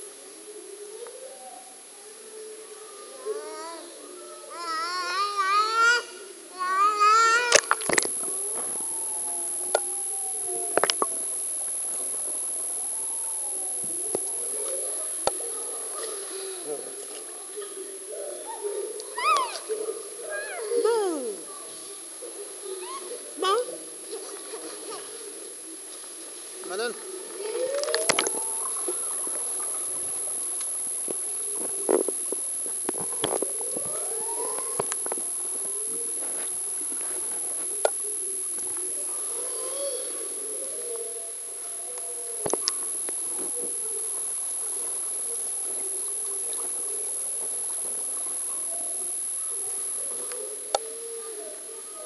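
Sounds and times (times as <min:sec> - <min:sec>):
thin high whine: 0:03.5 - 0:52.0
faint wavering tones: 0:06.2 - 0:52.0
underwater gurgling and bubbles: 0:07.0 - 0:20.2, 0:22.0 - 0:50.9.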